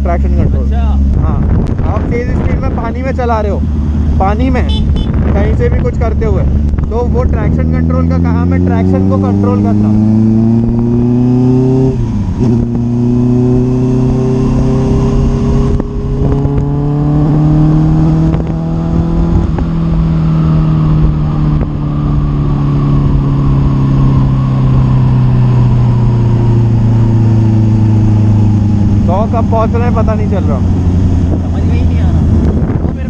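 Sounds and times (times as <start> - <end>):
motorcycle engine running: 0.0 - 33.0
wind rushing over microphone: 0.0 - 33.0.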